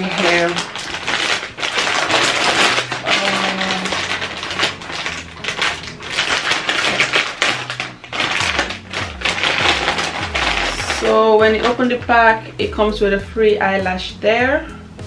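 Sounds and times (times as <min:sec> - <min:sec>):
plastic bags crinkling: 0:00.0 - 0:12.2.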